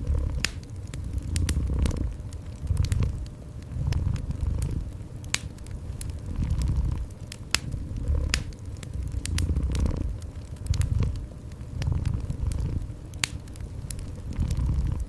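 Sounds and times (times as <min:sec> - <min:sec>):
cat purring: 0:00.0 - 0:15.0
wood fire crackling: 0:00.0 - 0:15.0.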